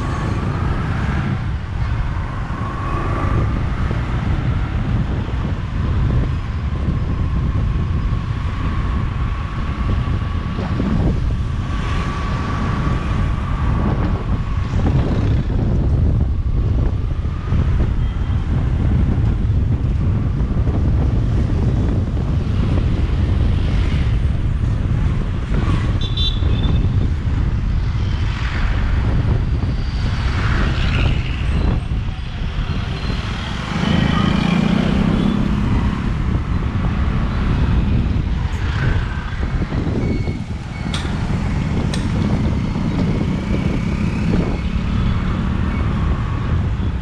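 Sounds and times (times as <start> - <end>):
surrounding traffic: 0.0 - 47.0
wind on microphone: 0.0 - 47.0.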